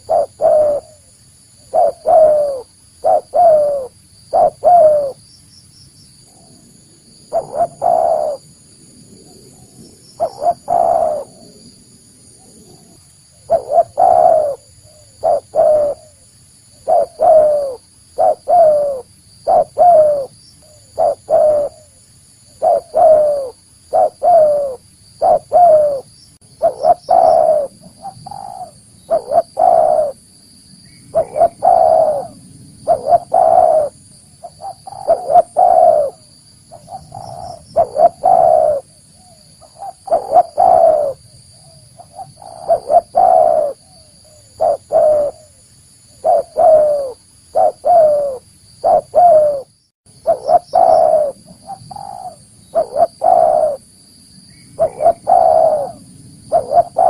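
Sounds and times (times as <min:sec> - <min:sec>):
dove cooing: 0:00.0 - 0:05.2, 0:07.3 - 0:08.6, 0:09.3 - 0:11.7, 0:12.4 - 0:16.2, 0:16.8 - 0:30.2, 0:31.1 - 0:53.9, 0:54.8 - 0:57.0.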